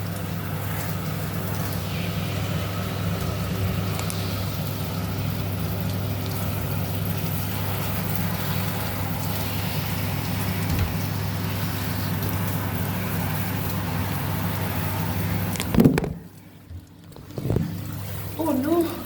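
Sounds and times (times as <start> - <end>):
shower spray running: 0.0 - 16.2.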